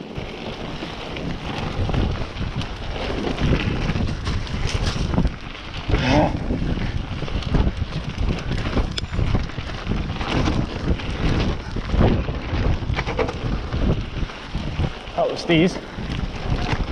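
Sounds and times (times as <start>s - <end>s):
bike tyres and frame rattling: 0.0s - 16.9s
wind buffeting microphone: 0.0s - 16.9s.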